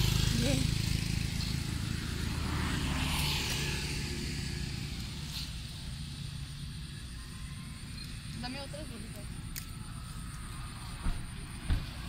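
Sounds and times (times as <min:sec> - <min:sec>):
motor engine droning: 0:00.0 - 0:12.0.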